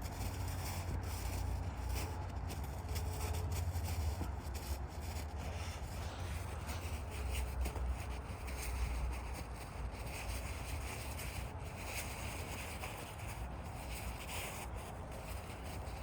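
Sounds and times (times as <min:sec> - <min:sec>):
snow being packed by hand: 0:00.0 - 0:16.0.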